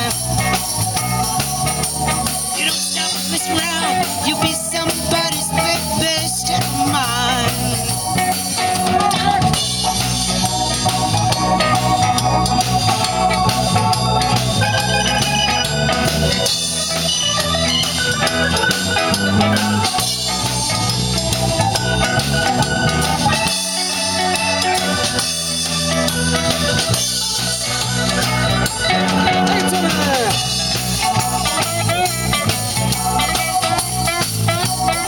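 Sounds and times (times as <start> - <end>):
drum kit: 0.0 - 35.0
live blues band playing: 0.0 - 35.0
steady bass line: 0.0 - 35.0.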